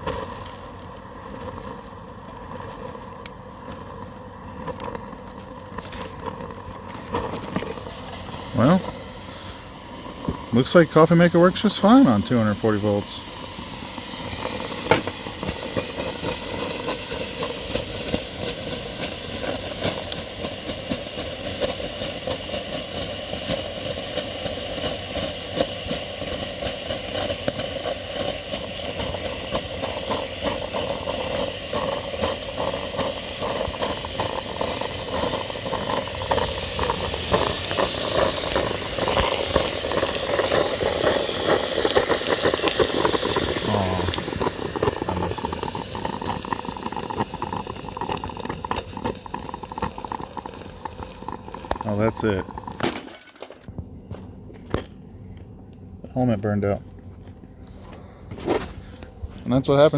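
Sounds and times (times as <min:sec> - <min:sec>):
coffee maker hissing and sputtering: 0:00.0 - 0:59.9.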